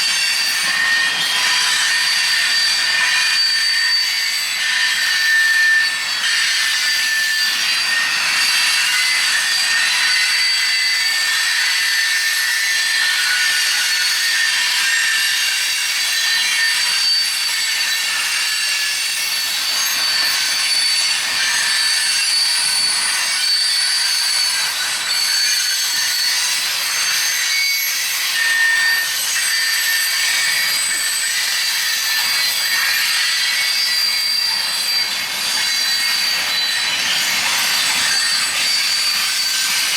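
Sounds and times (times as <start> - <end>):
train wheels squealing on rail: 0.0 - 39.9.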